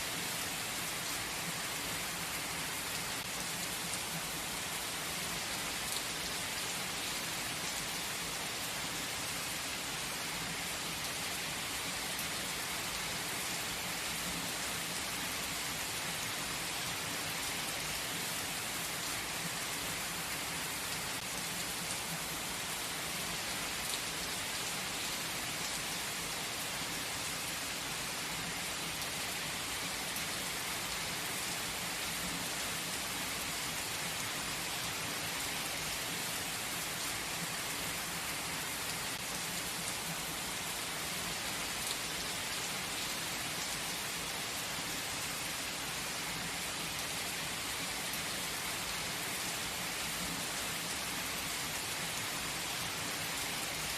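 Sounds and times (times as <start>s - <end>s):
gentle rain falling: 0.0s - 53.9s.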